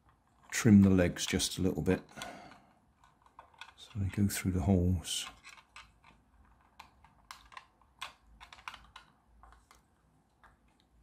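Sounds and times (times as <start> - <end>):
plastic parts clicking together: 1.9 - 11.0.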